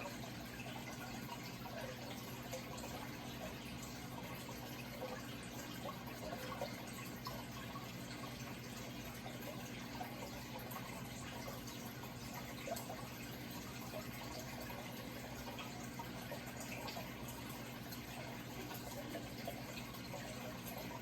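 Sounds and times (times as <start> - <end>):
bubbling drips: 0.0 - 21.0
water trickling: 0.0 - 21.0.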